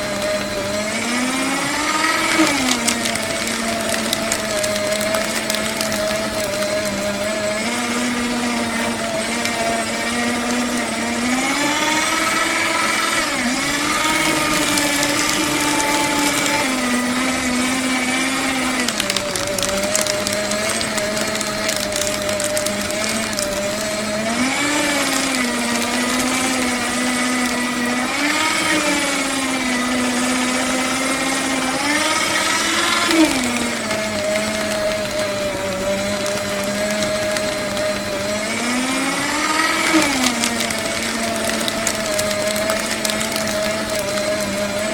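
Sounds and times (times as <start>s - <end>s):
paper shredder motor hum: 0.0s - 44.9s
shredder cutters rasping: 0.0s - 44.9s.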